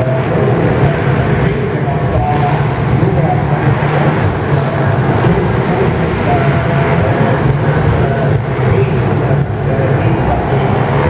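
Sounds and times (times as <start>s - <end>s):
pit bike engines revving: 0.0s - 11.0s.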